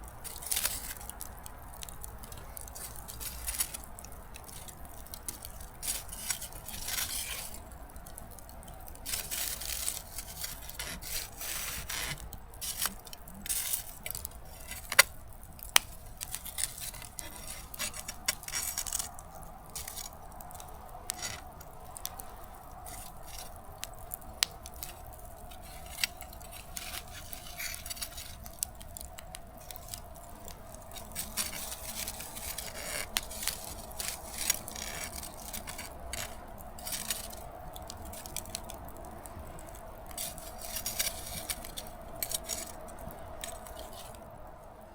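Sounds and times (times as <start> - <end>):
campfire crackling and popping: 0.0 - 44.9
sharp snaps of fire: 0.0 - 44.9.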